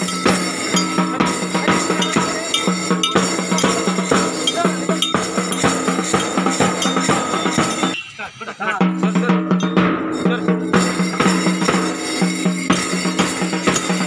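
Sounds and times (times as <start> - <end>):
background music with steady beat: 0.0 - 14.0.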